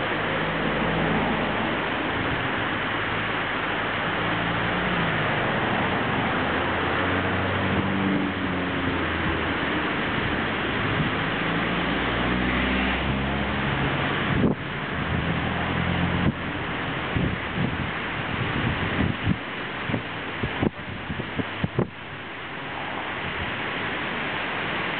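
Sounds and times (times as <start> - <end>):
steam train low rumble: 0.0 - 24.2
wind on microphone: 4.1 - 24.2.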